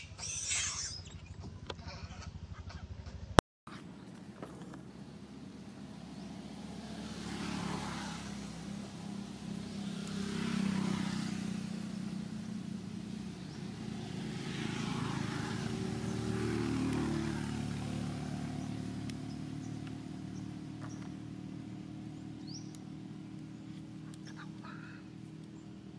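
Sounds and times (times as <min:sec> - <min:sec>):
vehicle engines passing: 0:00.0 - 0:25.9.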